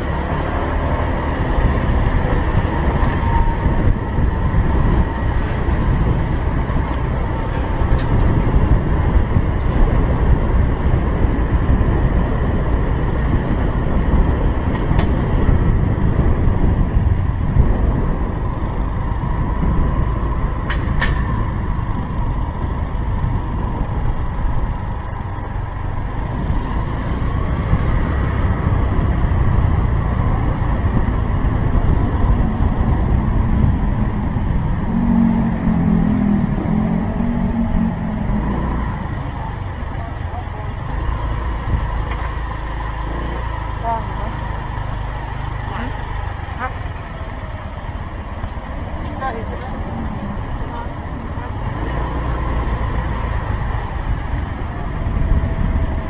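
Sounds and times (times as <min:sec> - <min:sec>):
wind rumbling on microphone: 0:00.0 - 0:56.0.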